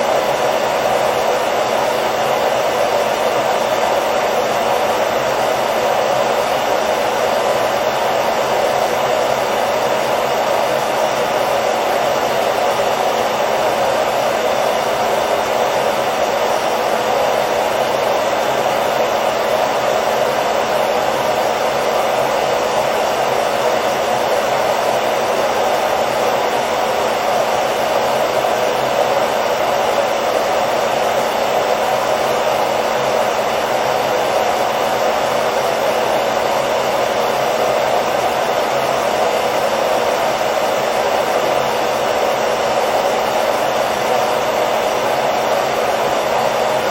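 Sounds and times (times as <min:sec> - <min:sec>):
hair dryer running: 0:00.0 - 0:46.9.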